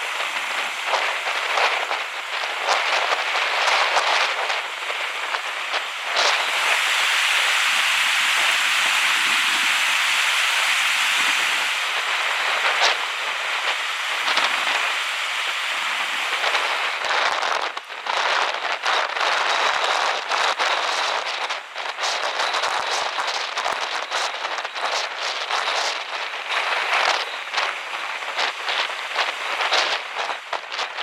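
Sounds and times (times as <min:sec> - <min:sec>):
rain and moving water: 0:00.0 - 0:31.0.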